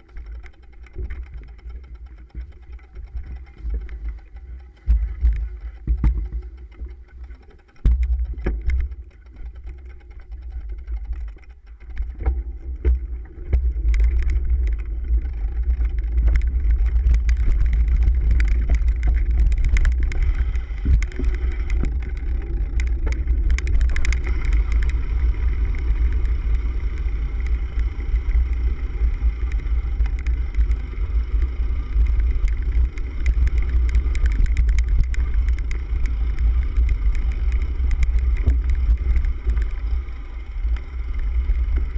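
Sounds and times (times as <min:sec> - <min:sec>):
bike rattles and clicks: 0:00.0 - 0:41.9
bike rumbling over dirt trail: 0:00.0 - 0:41.9.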